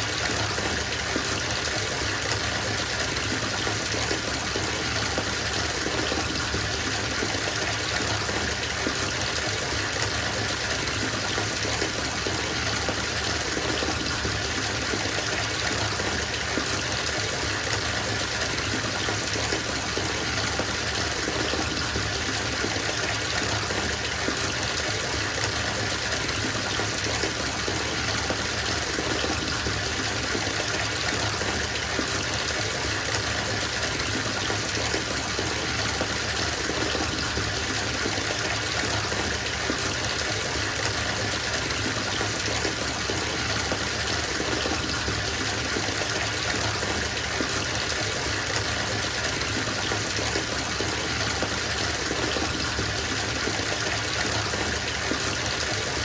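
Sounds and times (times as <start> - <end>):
water gushing into bathtub: 0.0 - 56.0.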